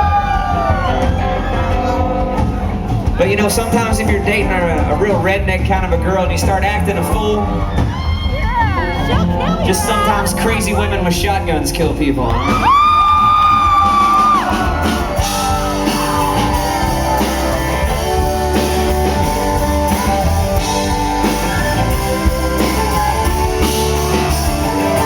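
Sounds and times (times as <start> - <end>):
country-rock band playing: 0.0 - 25.0.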